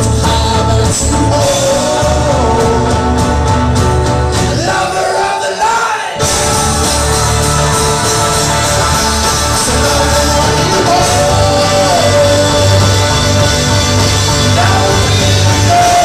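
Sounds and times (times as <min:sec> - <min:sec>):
folk-rock band playing live: 0:00.0 - 0:16.0
person singing: 0:00.0 - 0:16.0.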